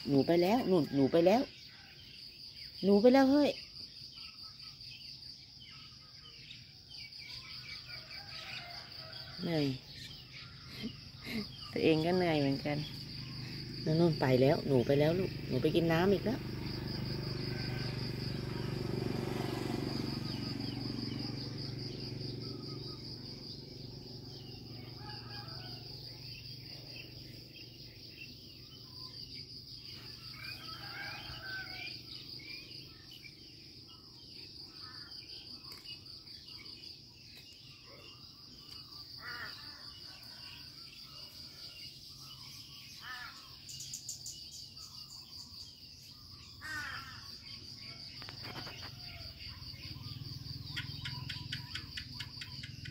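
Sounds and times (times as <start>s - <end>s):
birds chirping: 0.0s - 52.9s
crickets trilling: 0.0s - 52.9s.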